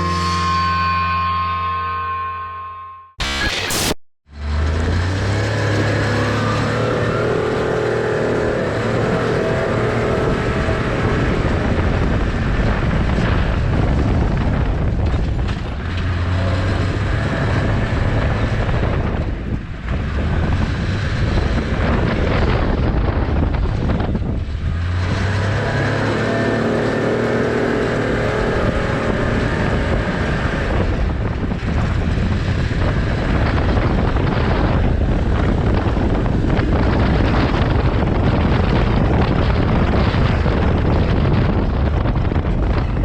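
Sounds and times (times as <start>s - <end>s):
wind noise on microphone: 4.6s - 43.0s.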